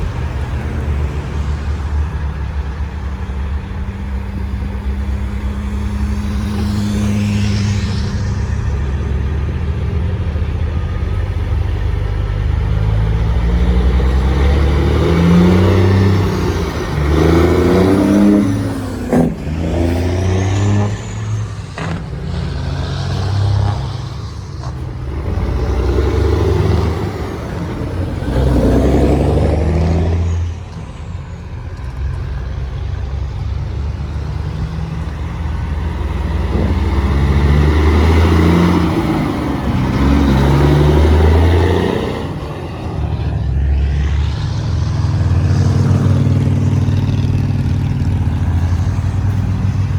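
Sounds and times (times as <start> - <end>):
truck diesel engines revving: 0.0 - 49.9.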